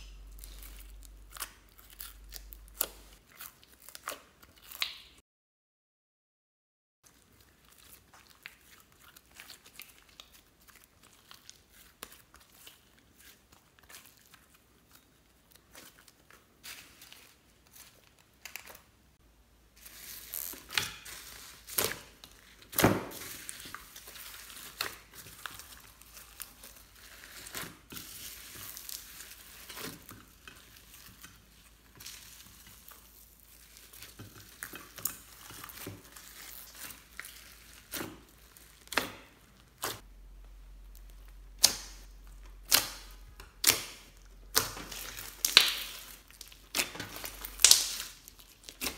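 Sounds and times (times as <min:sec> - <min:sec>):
slime crackling and popping: 0:00.0 - 0:05.2, 0:07.2 - 0:18.9, 0:19.8 - 0:40.0, 0:40.8 - 0:48.9.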